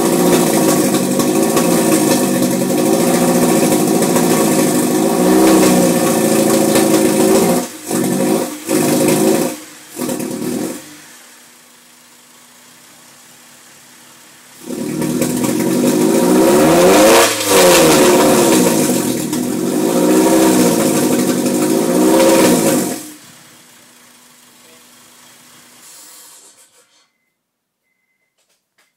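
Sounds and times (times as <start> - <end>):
car engine running rough: 0.0 - 26.7.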